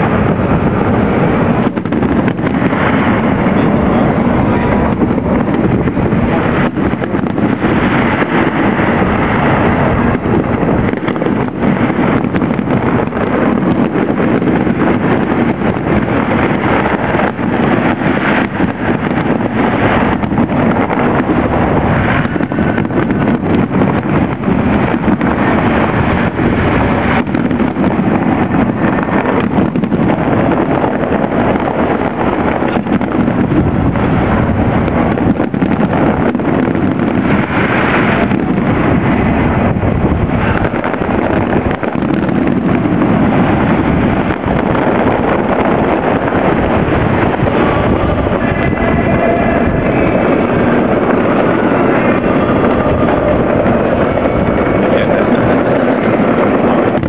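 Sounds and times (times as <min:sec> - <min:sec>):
fireworks bursts: 0:00.0 - 0:57.0
loud rushing noise: 0:00.0 - 0:57.0.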